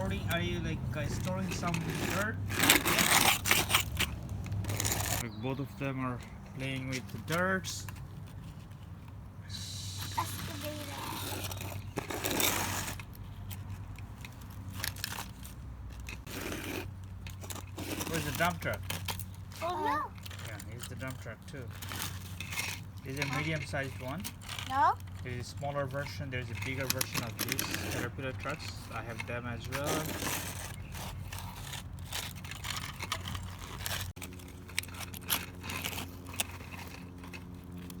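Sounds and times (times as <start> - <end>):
toy trucks scraping through dirt: 0.0 - 38.0.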